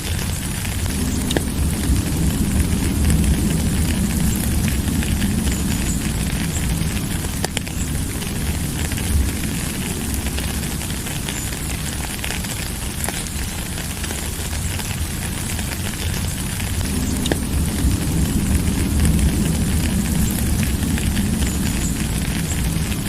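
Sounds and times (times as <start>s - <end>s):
deep rumble: 0.0s - 23.0s
rain falling: 0.0s - 23.0s.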